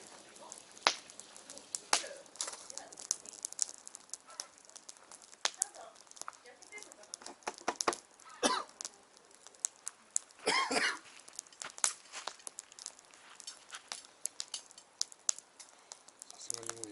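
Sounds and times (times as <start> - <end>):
bonfire crackling and popping: 0.0 - 16.9.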